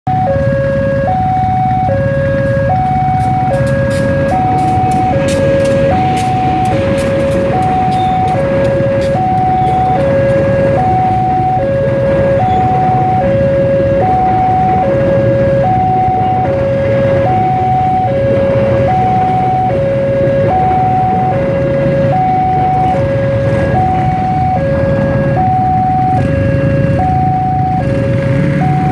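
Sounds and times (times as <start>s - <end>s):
two-tone crossing alarm: 0.1s - 28.9s
steady low rumble: 0.2s - 27.8s.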